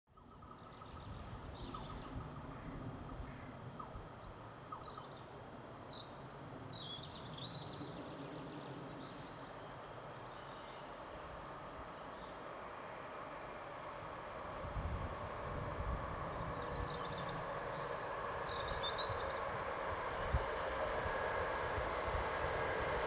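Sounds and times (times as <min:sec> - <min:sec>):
outdoor background noise: 0:00.1 - 0:23.0
distant train hum: 0:00.2 - 0:23.0.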